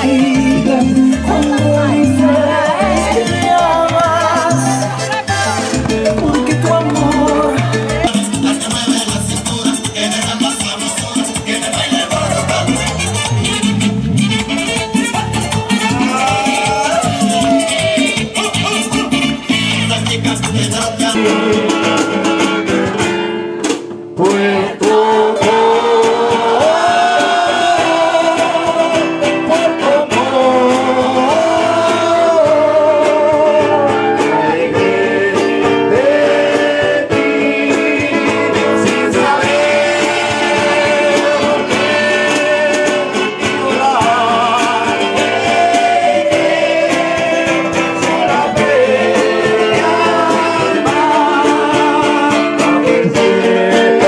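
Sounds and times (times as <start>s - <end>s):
guitar-backed song: 0.0s - 54.0s.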